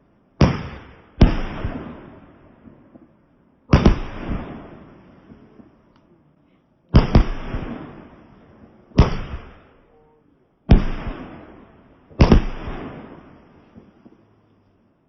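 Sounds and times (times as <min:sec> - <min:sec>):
fireworks exploding: 0:00.0 - 0:06.0, 0:06.9 - 0:14.8.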